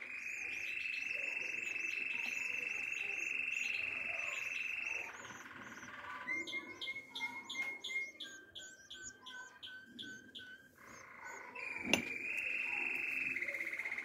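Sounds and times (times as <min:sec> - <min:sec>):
canaries chirping: 0:00.0 - 0:14.0.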